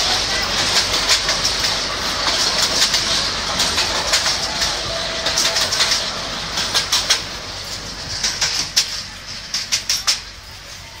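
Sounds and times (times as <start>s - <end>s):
train wheels clicking and rattling: 0.0s - 11.0s.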